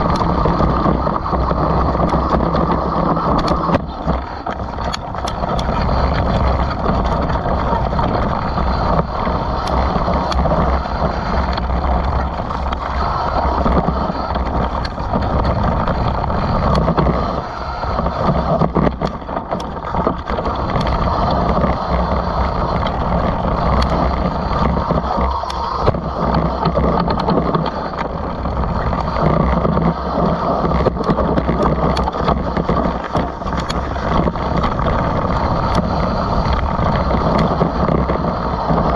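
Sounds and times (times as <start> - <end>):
bike clacking and rattling: 0.0 - 38.9
tyres rolling over dirt: 0.0 - 38.9
wind on microphone: 0.0 - 38.9.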